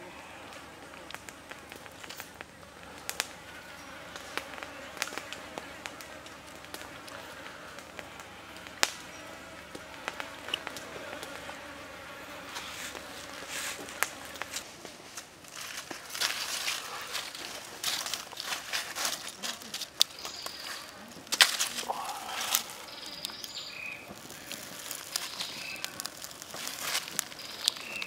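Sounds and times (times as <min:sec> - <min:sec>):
background hiss: 0:00.0 - 0:28.0
insects buzzing faintly: 0:00.0 - 0:28.0.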